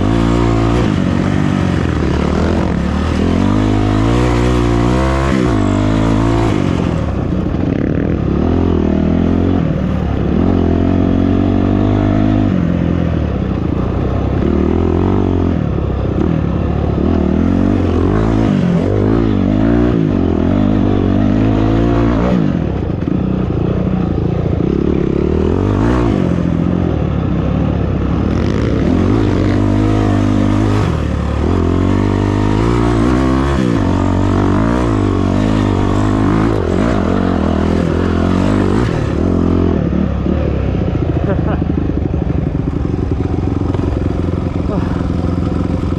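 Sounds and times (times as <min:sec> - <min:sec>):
off-road vehicle engine revving: 0:00.0 - 0:45.9.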